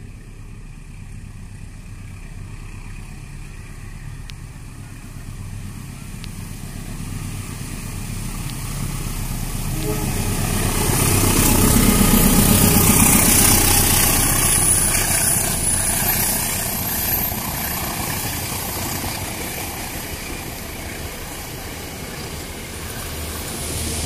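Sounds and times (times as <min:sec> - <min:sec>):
locomotive engine running loud: 0:00.0 - 0:24.0
train wheels rumbling on rails: 0:00.0 - 0:24.0.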